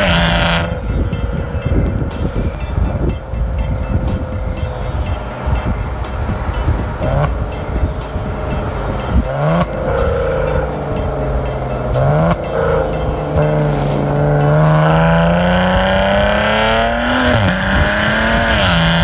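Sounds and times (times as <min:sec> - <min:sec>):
car exhaust accelerating: 0:00.0 - 0:19.0.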